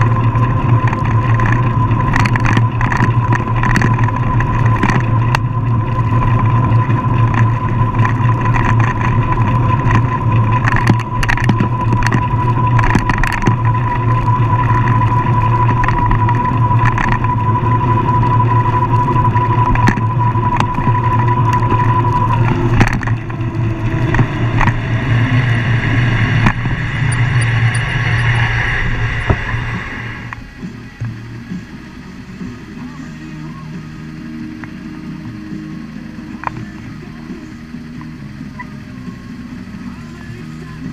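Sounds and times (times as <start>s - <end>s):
engine drone: 0.0s - 40.9s
thin steady whine: 0.0s - 40.9s.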